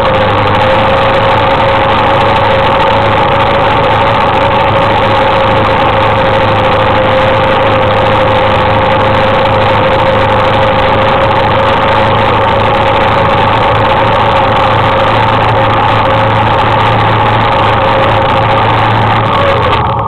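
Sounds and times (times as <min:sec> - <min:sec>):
atv engine droning: 0:00.0 - 0:20.0.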